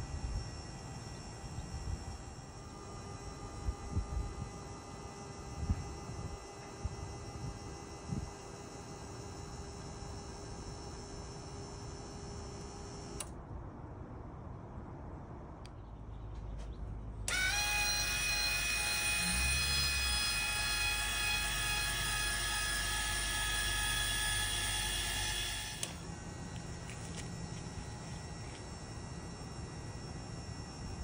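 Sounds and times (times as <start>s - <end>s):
linear actuator motor whining: 0.0s - 13.3s, 17.3s - 31.0s.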